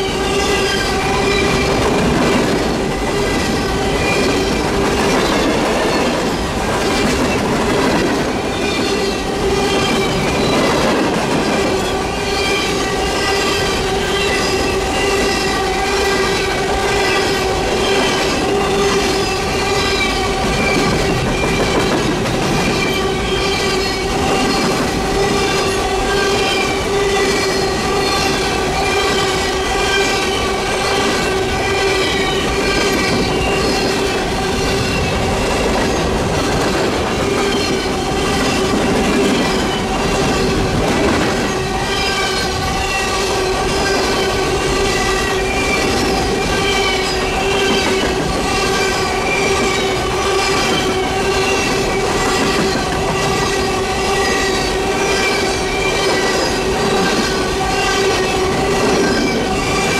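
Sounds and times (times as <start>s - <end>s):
train wheels rumbling on rails: 0.0s - 59.9s
wheels clickety-clack: 0.1s - 59.9s.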